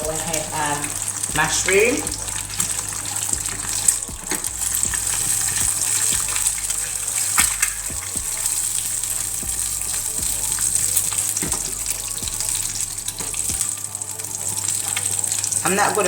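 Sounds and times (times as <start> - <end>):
eggs sizzling in a pan: 0.0 - 16.0.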